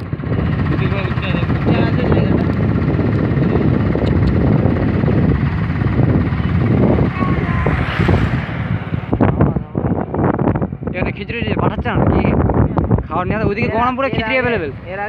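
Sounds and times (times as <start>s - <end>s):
vehicle road and engine noise: 0.0s - 15.0s
wind buffeting microphone: 0.0s - 15.0s.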